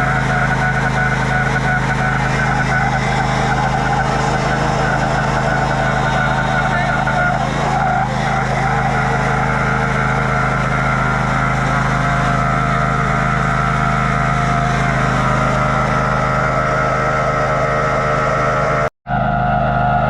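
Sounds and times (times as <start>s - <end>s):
riding lawn mower engine running: 0.0s - 20.0s.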